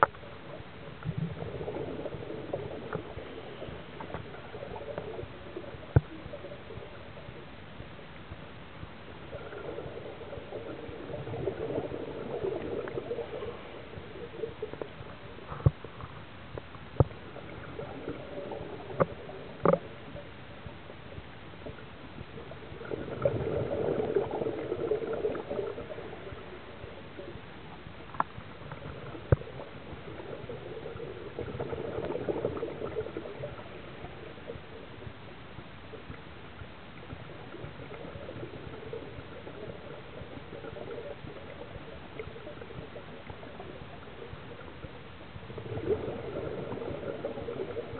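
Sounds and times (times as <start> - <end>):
steady background hiss: 0.0 - 47.9
underwater exhaled bubbles rumbling: 0.0 - 47.9.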